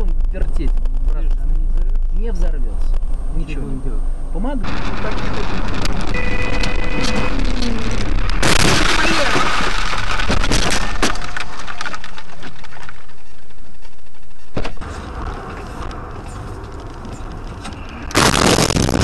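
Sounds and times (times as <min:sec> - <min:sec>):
tyre and road noise: 0:00.0 - 0:19.0.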